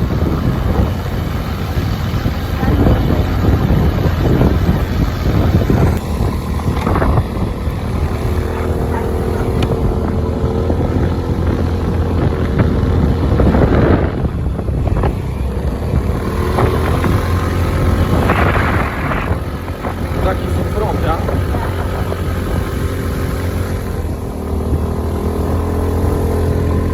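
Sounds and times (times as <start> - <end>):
vehicle engine rumble: 0.0 - 26.9
wind buffeting microphone: 0.0 - 26.9.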